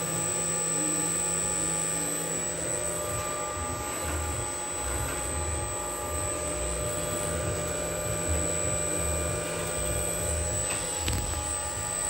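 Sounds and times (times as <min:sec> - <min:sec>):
high-pitched whine: 0:00.0 - 0:12.0
machine hum and fan noise: 0:00.0 - 0:12.0.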